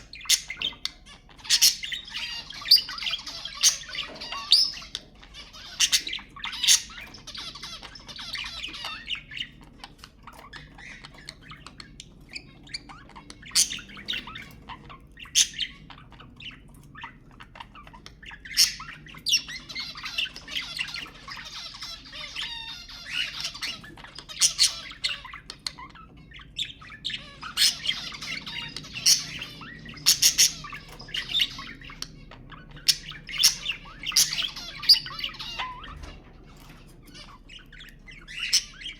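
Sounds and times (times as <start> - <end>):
high bird squawks: 0.0 - 16.0, 17.5 - 38.9
budgerigars chattering and warbling: 0.0 - 38.9.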